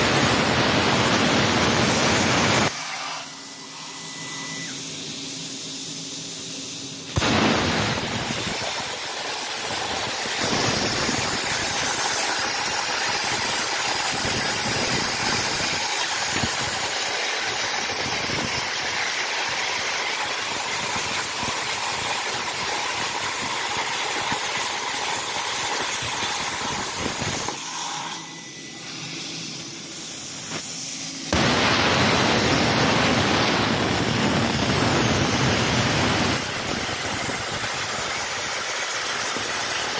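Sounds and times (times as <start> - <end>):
plasma cutter arc hissing: 0.0 - 39.9.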